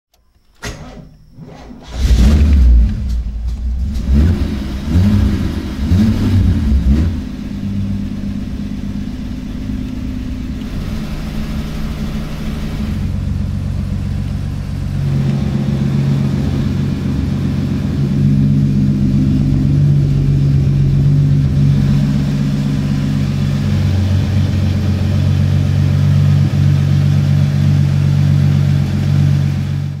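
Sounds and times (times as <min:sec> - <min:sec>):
car engine revving and idling: 0:01.4 - 0:30.0.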